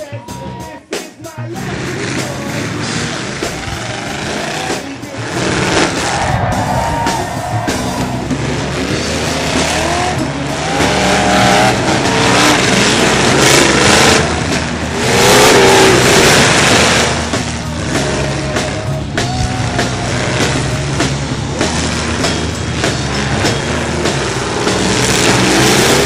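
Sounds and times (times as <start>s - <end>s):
car engines revving: 1.5s - 26.0s
cars ramming: 1.5s - 26.0s.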